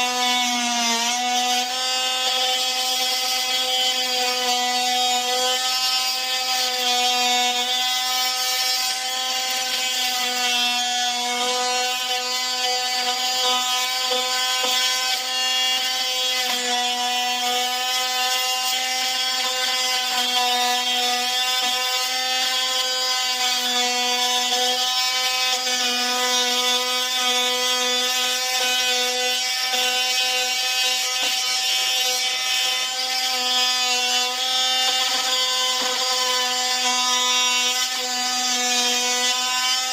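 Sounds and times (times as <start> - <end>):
power tool motor whining: 0.0 - 39.9.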